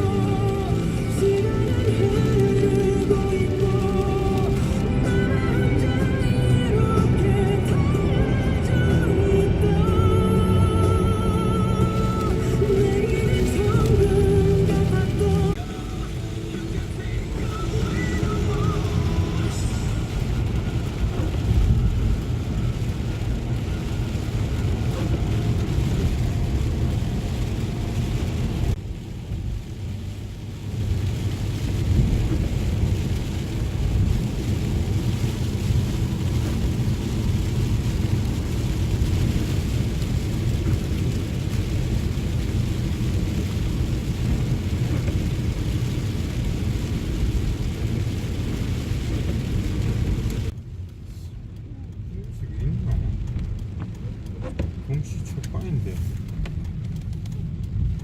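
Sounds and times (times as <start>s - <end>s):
engine and tyres rumbling: 0.0s - 58.0s
rain and road noise: 0.0s - 58.0s.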